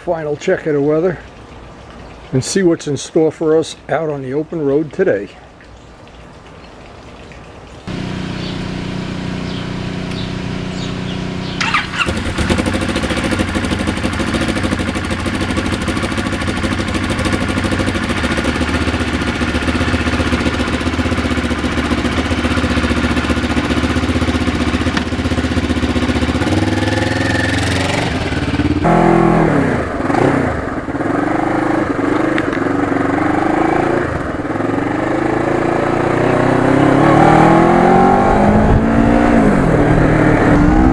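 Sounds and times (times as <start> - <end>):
motorcycle engine running: 7.9 - 40.9.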